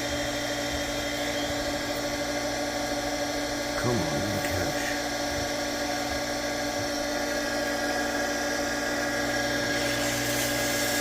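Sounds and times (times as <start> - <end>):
electric pump motor humming: 0.0 - 11.0.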